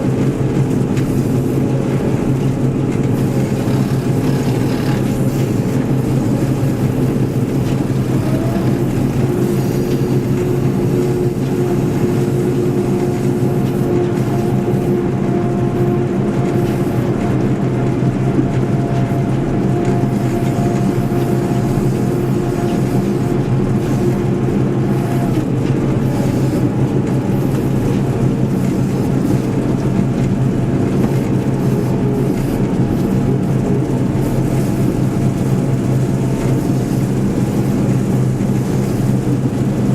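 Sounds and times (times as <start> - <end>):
combine harvester engine drone: 0.0 - 39.9
high machinery whine: 0.0 - 39.9.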